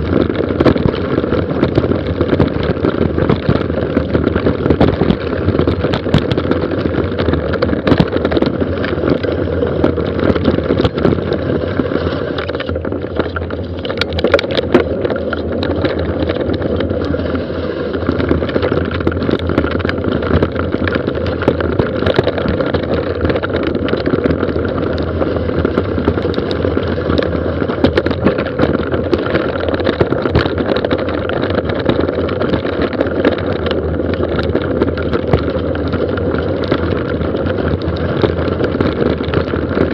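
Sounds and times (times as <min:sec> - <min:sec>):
bike rattling over stones: 0:00.0 - 0:39.9
tyre and wind rush: 0:00.0 - 0:39.9.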